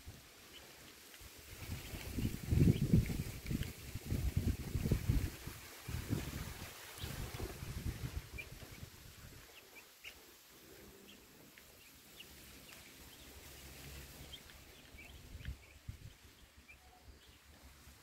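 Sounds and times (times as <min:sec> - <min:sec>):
chicks peeping faintly: 0:00.0 - 0:18.0.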